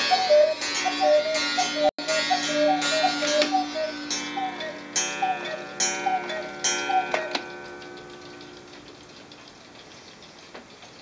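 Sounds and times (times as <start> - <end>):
clock mechanism clunk: 0.0 - 9.8
cuckoo clock calls: 0.0 - 10.9
clocks ticking: 0.0 - 11.0.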